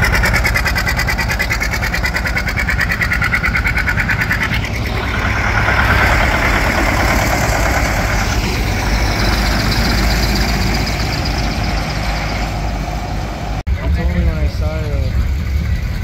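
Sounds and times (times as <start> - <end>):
tractor engine putting: 0.0 - 16.0
tractor engines droning past: 0.0 - 16.0.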